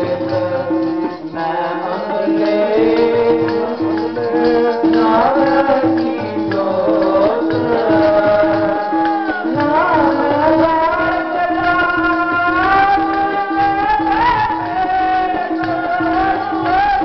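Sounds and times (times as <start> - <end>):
hymn singing: 0.0 - 17.0
instrumental accompaniment: 0.0 - 17.0
jingling percussion: 0.0 - 17.0
steady drum beat: 0.0 - 17.0.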